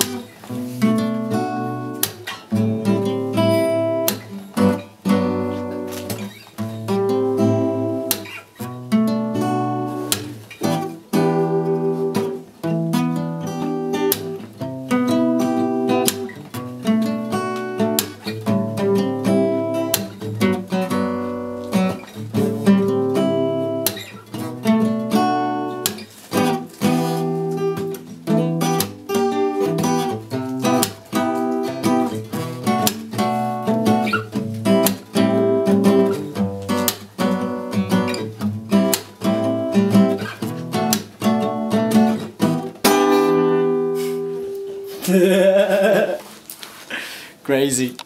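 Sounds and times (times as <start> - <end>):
acoustic guitars playing: 0.0 - 47.9.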